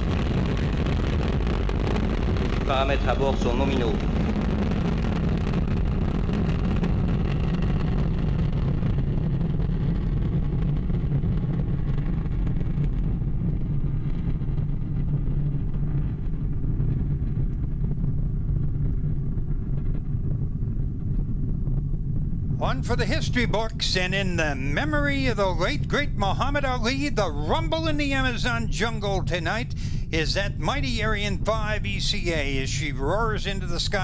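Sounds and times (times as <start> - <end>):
rocket engines roaring: 0.0 - 34.0.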